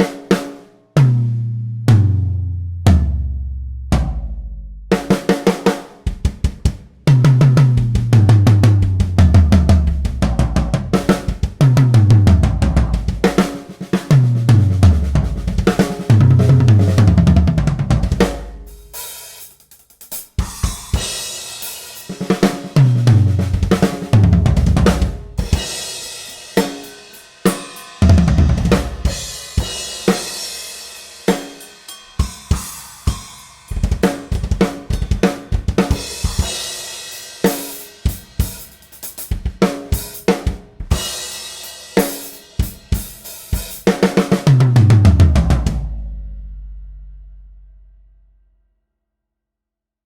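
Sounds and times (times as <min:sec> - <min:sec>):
drum kit groove: 0:00.0 - 0:47.0
tom drum fills: 0:01.0 - 0:46.6.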